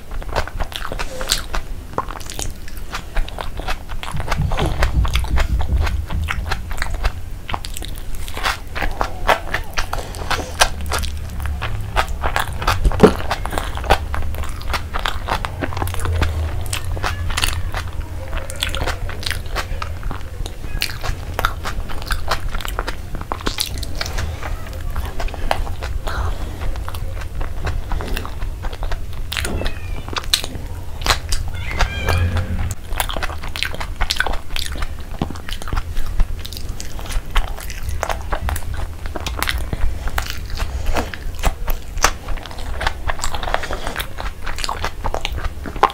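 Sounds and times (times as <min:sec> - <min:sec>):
person chewing crunchy food: 0:00.0 - 0:45.9
steady low hum: 0:00.0 - 0:45.9
wet mouth sounds: 0:00.0 - 0:45.9.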